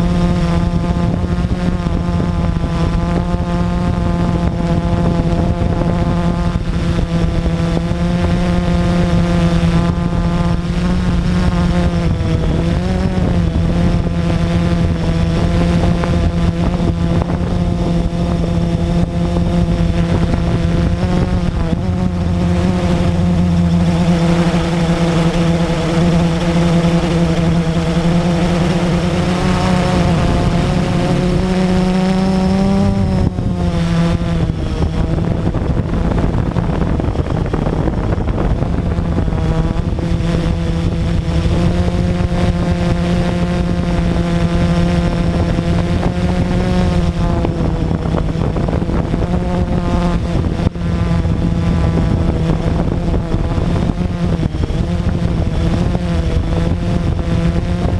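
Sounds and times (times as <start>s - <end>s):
quadcopter motors whining: 0.0s - 57.9s.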